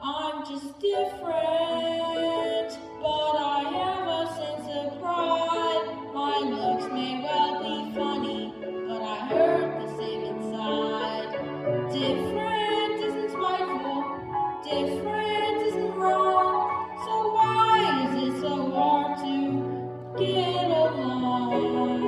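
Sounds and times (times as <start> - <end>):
young person singing: 0.0 - 22.0
instrumental backing music: 1.0 - 22.0.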